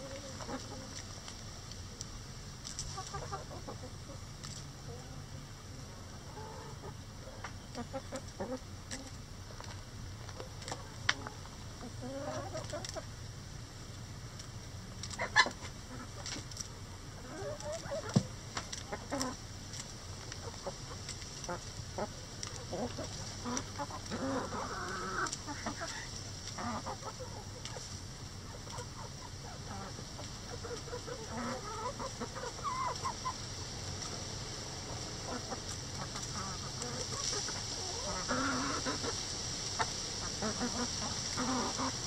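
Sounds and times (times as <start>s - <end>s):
hens and roosters clucking: 0.0s - 42.0s.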